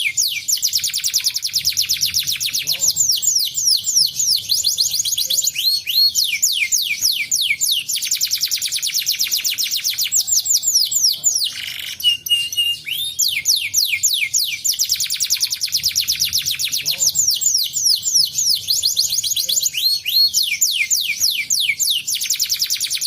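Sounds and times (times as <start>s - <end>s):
canary singing trills: 0.0s - 23.0s.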